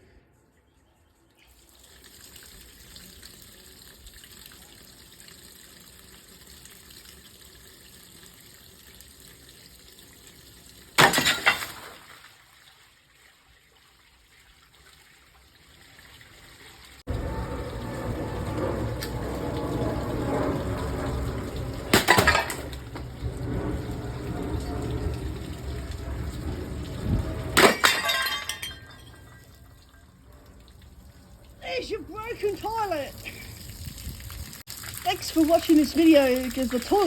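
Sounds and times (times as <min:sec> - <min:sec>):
water running steadily: 0:01.6 - 0:29.8, 0:30.5 - 0:37.0.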